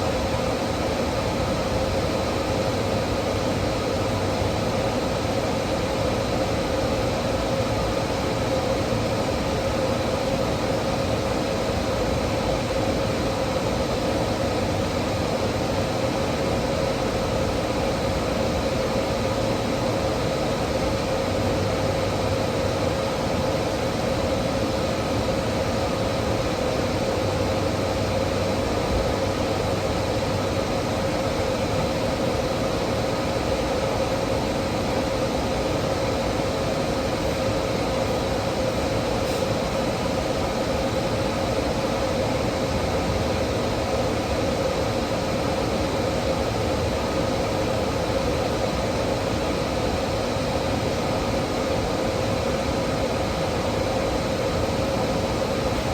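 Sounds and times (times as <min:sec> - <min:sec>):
steady mechanical hum: 0:00.0 - 0:55.9.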